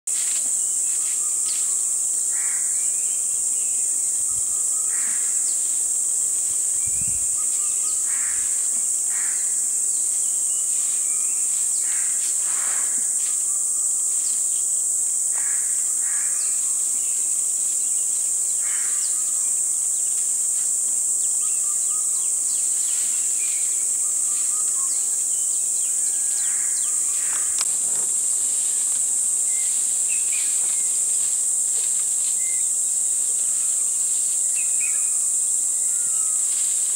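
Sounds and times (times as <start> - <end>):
insect chorus drone: 0.1 - 36.9.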